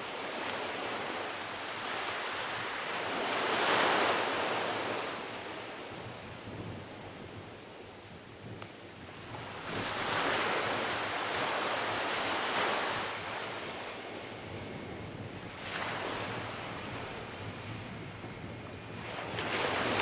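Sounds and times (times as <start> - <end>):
waves washing up sandy beach: 0.0 - 7.4, 9.0 - 20.0.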